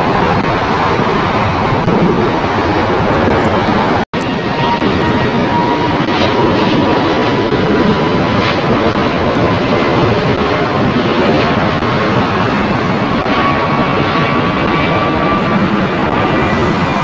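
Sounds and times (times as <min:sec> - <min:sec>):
jet airliner flying overhead: 0:00.0 - 0:17.0.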